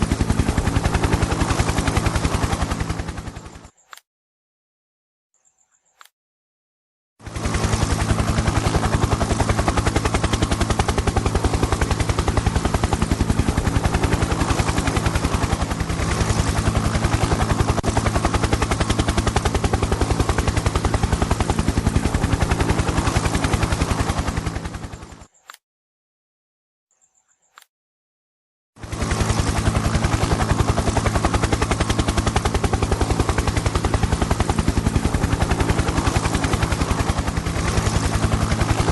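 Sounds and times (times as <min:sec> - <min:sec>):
helicopter rotor chopping: 0:00.0 - 0:03.7, 0:07.2 - 0:25.3, 0:28.8 - 0:38.9.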